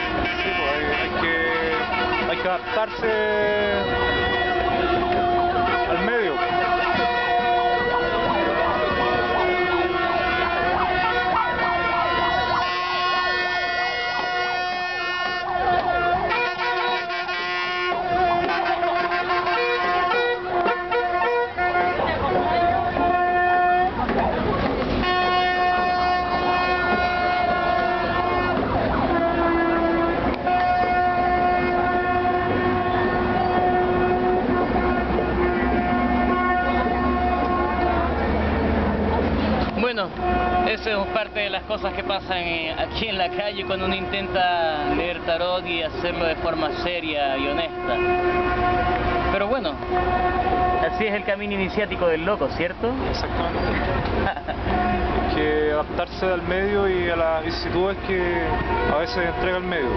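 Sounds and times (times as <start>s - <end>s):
blaring horn notes: 0.0s - 59.9s
street noise: 0.0s - 59.9s.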